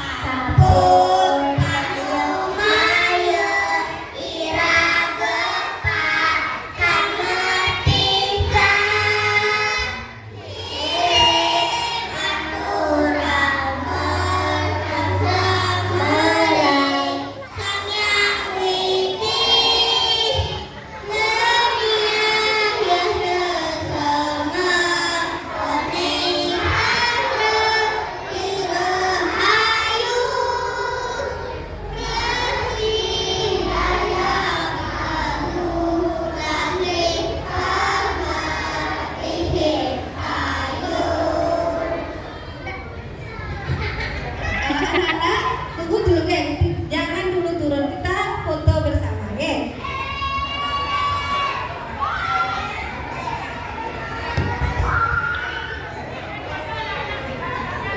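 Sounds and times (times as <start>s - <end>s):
children's choir singing: 0.0s - 45.9s, 49.7s - 57.9s.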